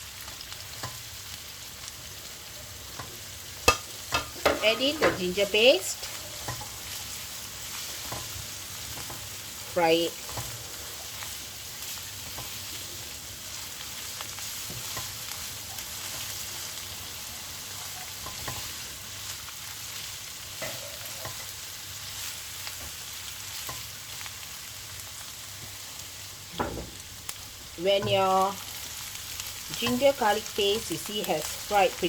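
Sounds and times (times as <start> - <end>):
onions sizzling in hot oil: 0.0 - 32.0.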